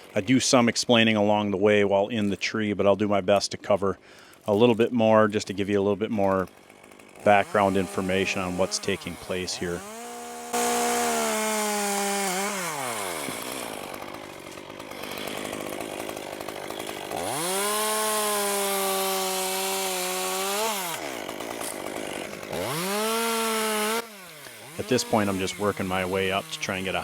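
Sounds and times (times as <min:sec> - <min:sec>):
chainsaw cutting wood: 0:00.0 - 0:00.3, 0:05.4 - 0:27.0.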